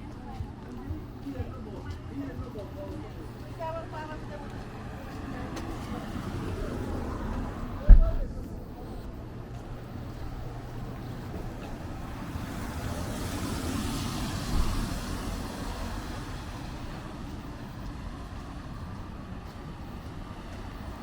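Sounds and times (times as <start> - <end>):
street background noise: 0.0 - 21.0.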